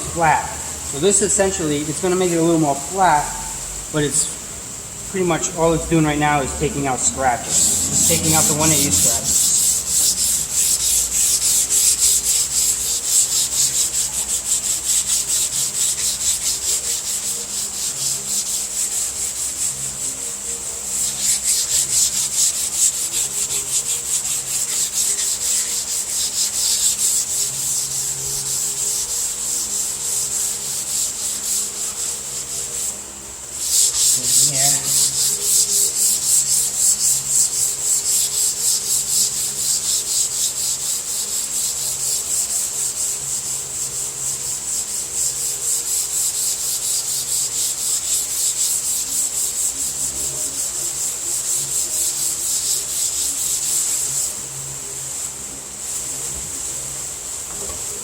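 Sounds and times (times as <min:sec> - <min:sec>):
hand sanding strokes: 0:00.0 - 0:58.0.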